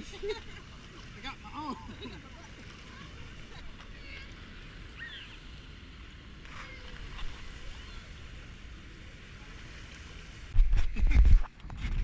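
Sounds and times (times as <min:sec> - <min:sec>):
low rumble of water: 0:00.0 - 0:12.0
wind: 0:00.0 - 0:12.0.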